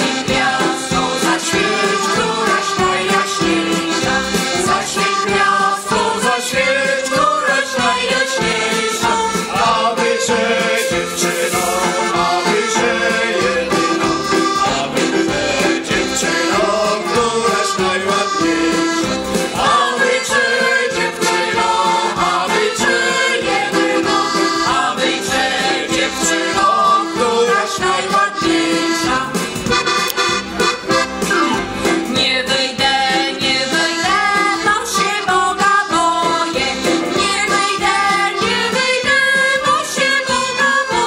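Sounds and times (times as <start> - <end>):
folk group singing: 0.0 - 29.9, 31.7 - 41.0
accordion: 0.0 - 41.0.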